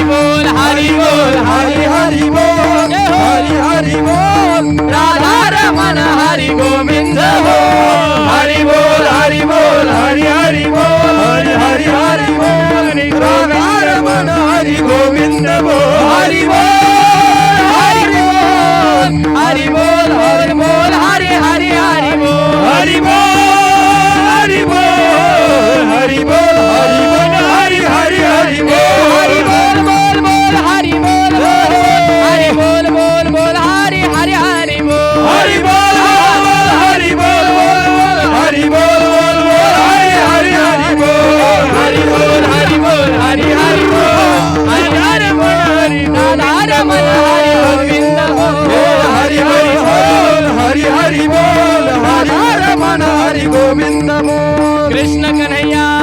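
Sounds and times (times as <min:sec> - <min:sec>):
percussion beat: 0:00.0 - 0:56.0
person singing melody: 0:00.0 - 0:56.0.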